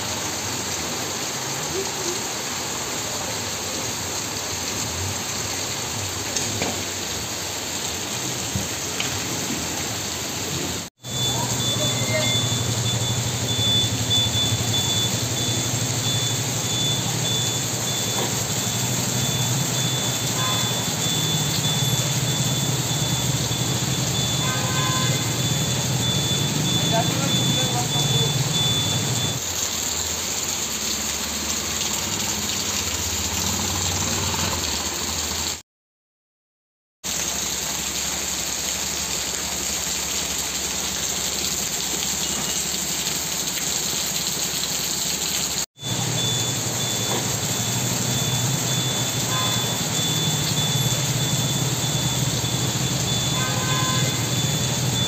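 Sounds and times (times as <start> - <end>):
heavy rain falling: 0.0 - 35.6, 37.1 - 55.0.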